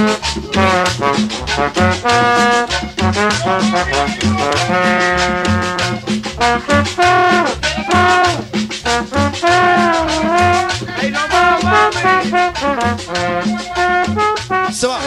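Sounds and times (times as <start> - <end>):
loud dance music: 0.0 - 15.0.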